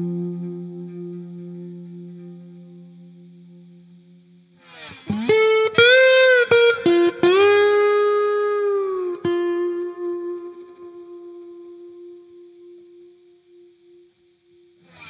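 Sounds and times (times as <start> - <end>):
electric guitar with effects: 0.0 - 15.0.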